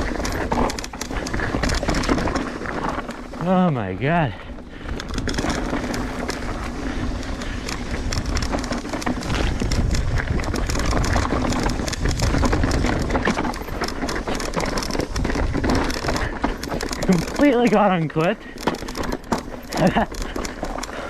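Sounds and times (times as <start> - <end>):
bike clattering over rocks: 0.0 - 21.0
mountain bike tyre noise: 0.0 - 21.0.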